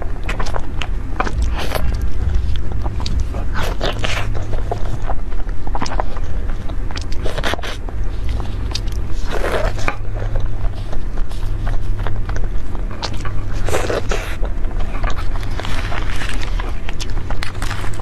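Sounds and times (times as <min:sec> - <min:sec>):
squishy bites and chewing: 0:00.0 - 0:18.0
steady low hum: 0:00.0 - 0:18.0.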